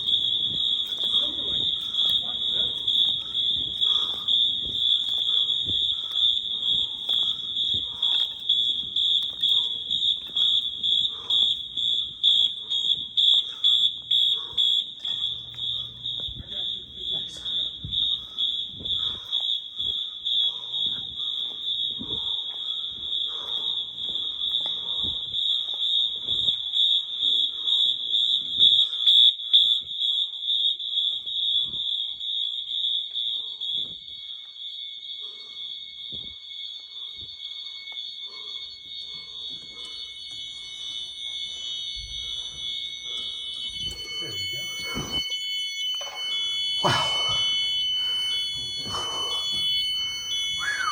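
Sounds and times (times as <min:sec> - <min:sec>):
fire alarm horn high-pitched tone: 0:00.0 - 0:50.9
fire alarm horns at other pitches: 0:00.0 - 0:50.9.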